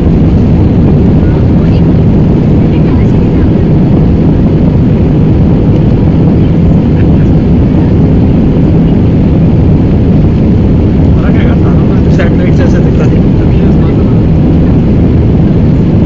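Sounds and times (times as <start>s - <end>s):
jet engines and rushing air: 0.0s - 16.0s.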